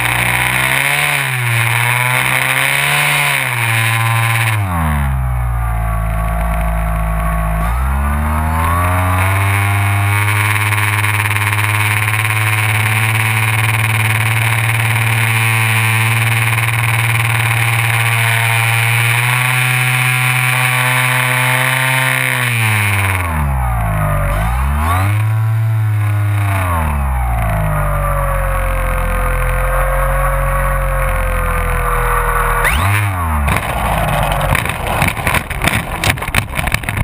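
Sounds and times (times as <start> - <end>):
electric motor and propeller whine: 0.0 - 37.0.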